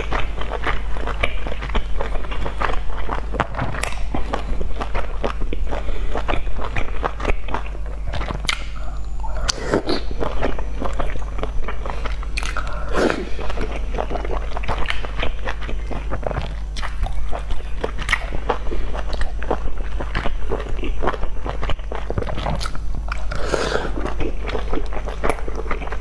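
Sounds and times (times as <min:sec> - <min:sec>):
wet chewing and lip smacks: 0:00.0 - 0:09.6, 0:13.4 - 0:26.0
steady low hum: 0:00.0 - 0:26.0.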